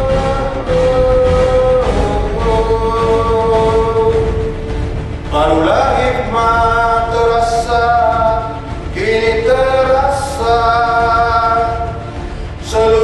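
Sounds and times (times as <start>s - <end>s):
person singing long notes: 0.0s - 13.0s.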